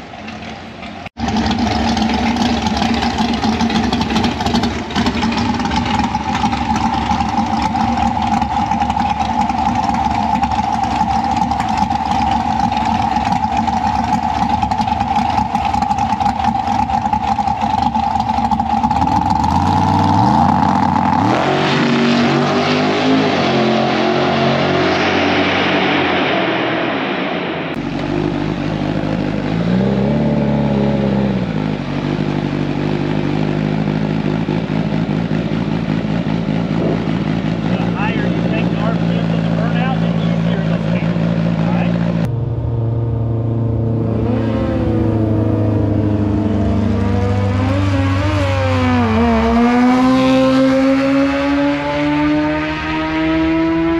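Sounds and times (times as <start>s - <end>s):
motorcycle engines revving: 0.0s - 53.9s.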